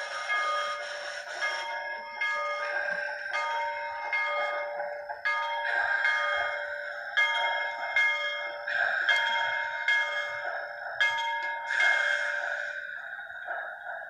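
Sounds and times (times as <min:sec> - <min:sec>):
locomotive bell through small speaker: 0:00.0 - 0:14.0.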